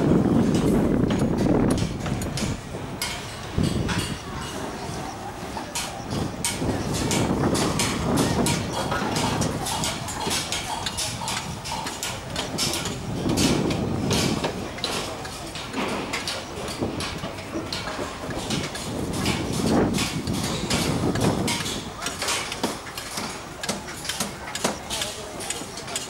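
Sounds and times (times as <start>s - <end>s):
low machinery rumble: 0.0s - 26.0s
sharp metallic clicks and knocks: 0.4s - 5.0s, 5.6s - 26.0s.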